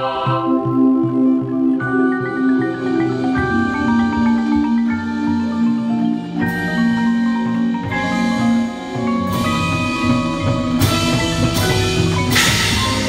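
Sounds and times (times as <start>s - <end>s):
marching band sustained lower parts: 0.0s - 13.0s
marimbas and vibraphone ringing: 0.0s - 13.0s.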